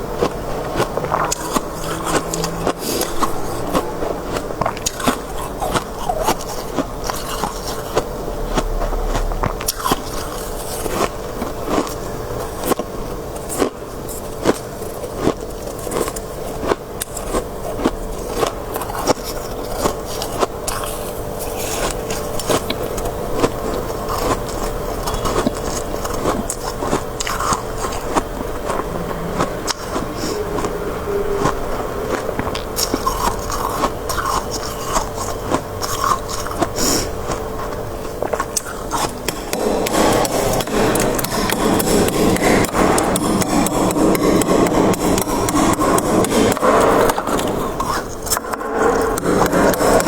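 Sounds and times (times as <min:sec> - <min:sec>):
crunching shaved ice: 0:00.0 - 0:50.0
steady hum: 0:00.0 - 0:50.0.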